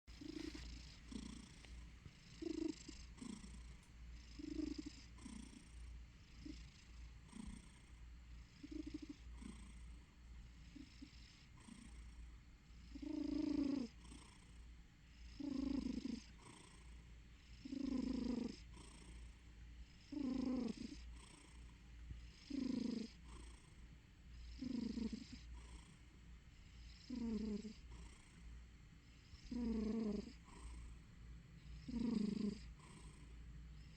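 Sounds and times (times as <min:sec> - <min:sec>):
cat snoring and purring: 0:00.1 - 0:33.9.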